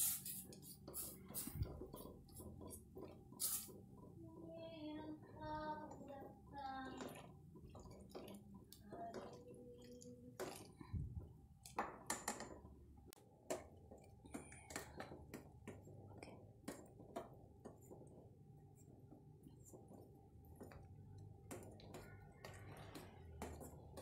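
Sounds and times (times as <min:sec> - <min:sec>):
spatula stirring in metal pot: 0:00.0 - 0:24.0.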